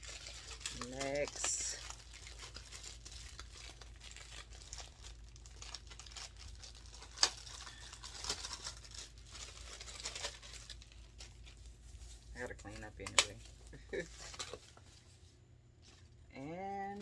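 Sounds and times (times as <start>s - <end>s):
packaging crinkling and rustling: 0.0s - 16.2s.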